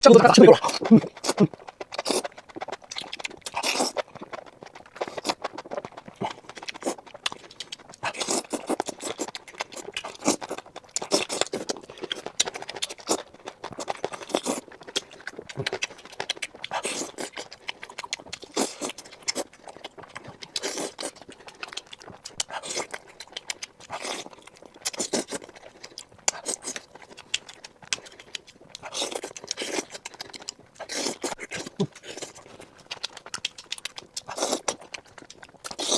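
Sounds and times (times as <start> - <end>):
chewing crunchy food: 0.0 - 35.9.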